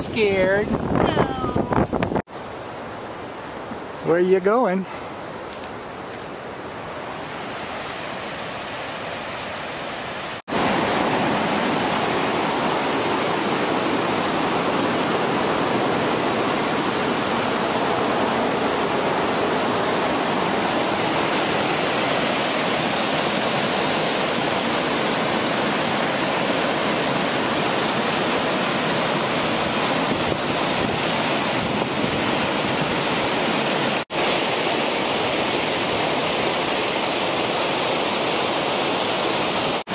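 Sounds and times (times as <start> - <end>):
creek rushing over rapids: 0.0 - 39.9.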